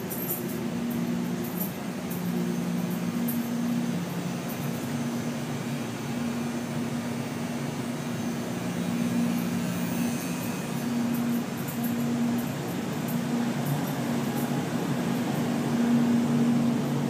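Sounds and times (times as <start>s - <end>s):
low two-tone drone: 0.0s - 17.0s
machinery hum and whir: 0.0s - 17.0s.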